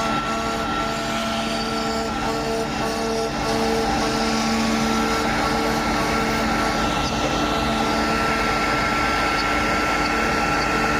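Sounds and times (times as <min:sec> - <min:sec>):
high machine tone: 0:00.0 - 0:10.9
low motor tones switching: 0:00.0 - 0:10.9
machine hum and hiss: 0:00.0 - 0:10.9.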